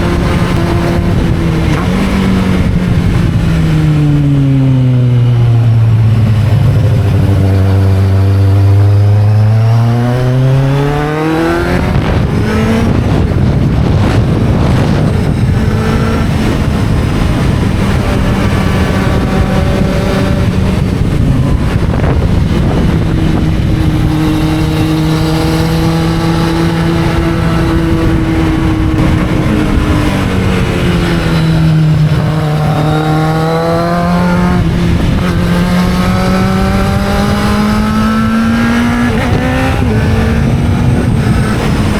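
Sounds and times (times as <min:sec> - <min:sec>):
motorcycle engine: 0:00.0 - 0:41.9.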